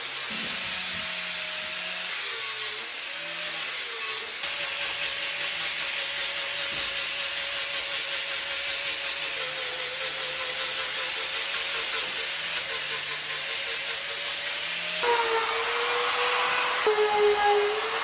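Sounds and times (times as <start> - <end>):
power carving tool cutting wood: 0.0 - 18.0.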